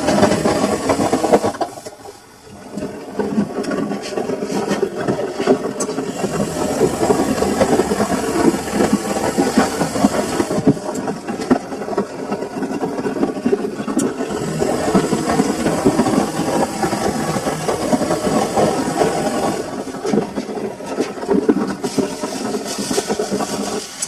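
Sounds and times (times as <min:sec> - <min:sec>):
washing machine drum rattling: 0:00.0 - 0:24.0.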